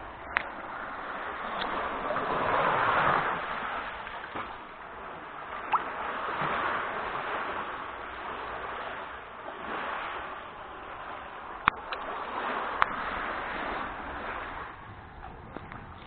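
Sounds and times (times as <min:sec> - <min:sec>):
sea waves washing onto beach: 0:00.0 - 0:16.0.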